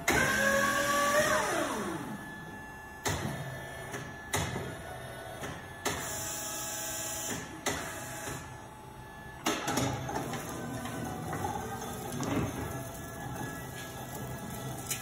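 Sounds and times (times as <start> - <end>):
electric forklift motor whirring: 0.0 - 15.0.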